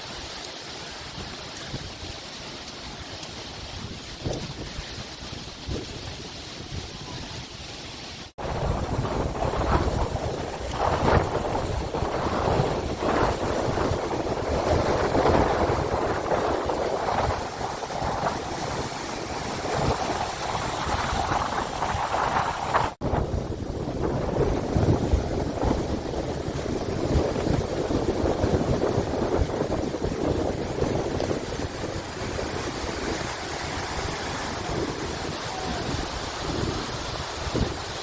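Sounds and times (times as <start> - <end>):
surf breaking on sandy beach: 0.0 - 38.0
wind buffeting microphone: 0.8 - 7.7, 8.3 - 38.0.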